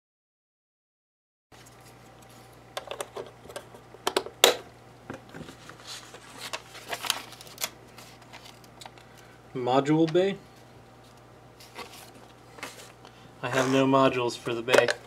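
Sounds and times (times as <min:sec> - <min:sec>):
faint steady hum: 0:01.6 - 0:15.0.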